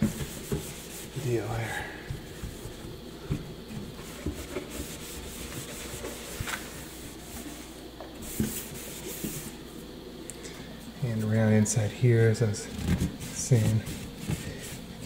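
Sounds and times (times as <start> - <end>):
cloth rubbing in a steel sink: 0.0 - 10.0, 12.4 - 15.0.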